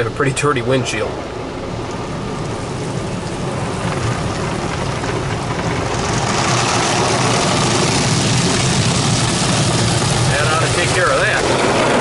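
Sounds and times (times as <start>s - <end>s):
low hum: 0.0s - 12.0s
water and spray rushing: 0.8s - 12.0s.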